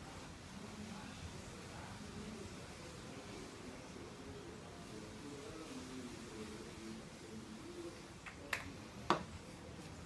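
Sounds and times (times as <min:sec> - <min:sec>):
low steady hiss: 0:00.0 - 0:10.0.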